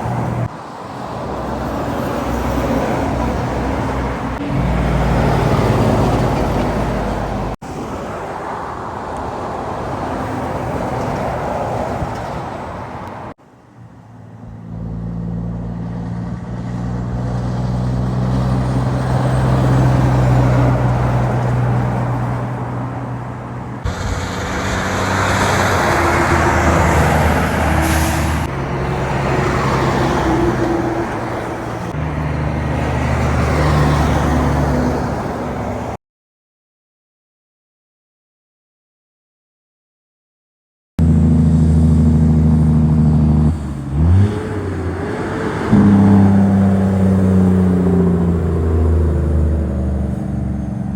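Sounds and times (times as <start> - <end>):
heavy trucks passing: 0.0 - 36.0, 41.0 - 50.9.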